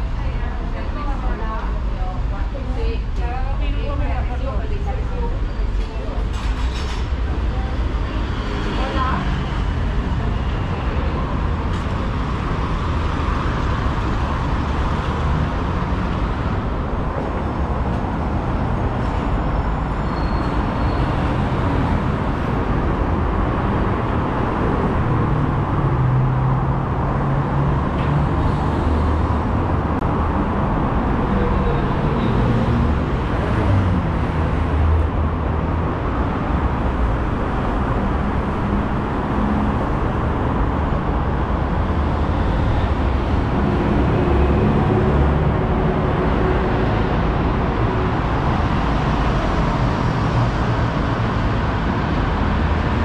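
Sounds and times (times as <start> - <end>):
heavy vehicle engine: 0.0 - 53.0
road traffic hum: 0.0 - 53.0.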